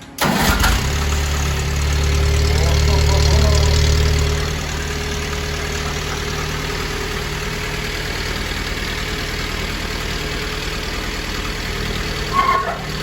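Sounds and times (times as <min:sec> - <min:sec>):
car engine idling: 0:00.2 - 0:13.0.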